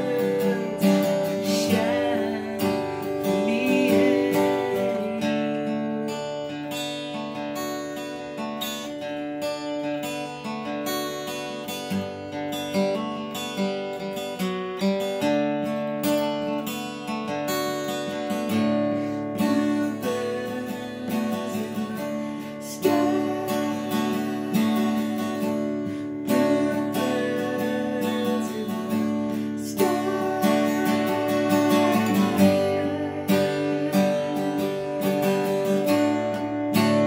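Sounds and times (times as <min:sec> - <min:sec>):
acoustic guitar strummed and picked: 0:00.0 - 0:37.0.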